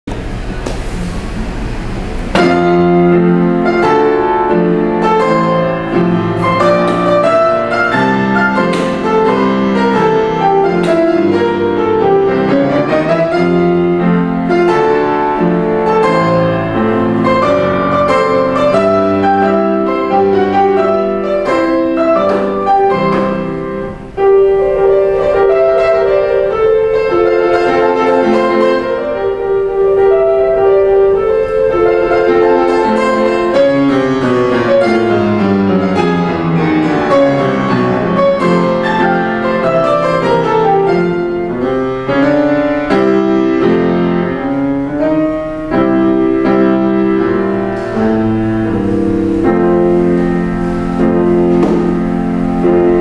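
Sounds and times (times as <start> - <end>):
grand piano playing: 0.0 - 53.0.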